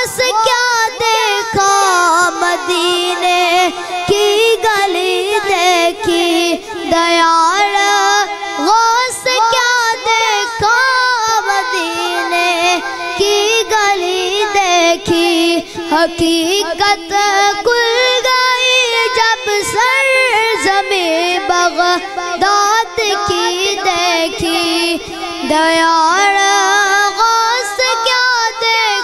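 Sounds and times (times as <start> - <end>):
boy singing into a microphone: 0.0 - 29.0.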